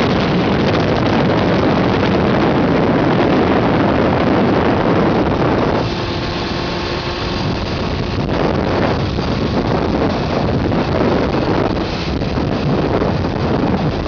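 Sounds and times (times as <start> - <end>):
motorcycle engine hum: 0.0 - 14.0
wind rushing over microphone: 0.0 - 14.0.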